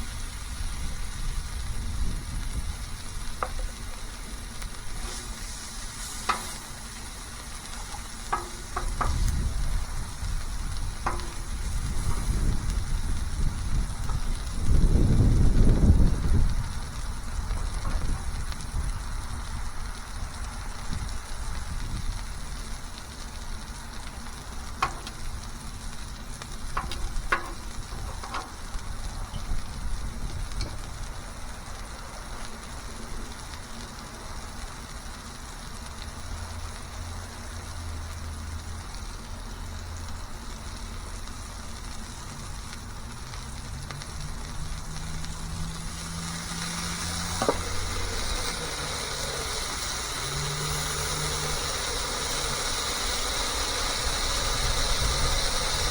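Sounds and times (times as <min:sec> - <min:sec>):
burger sizzling on a griddle: 0:00.0 - 0:55.9.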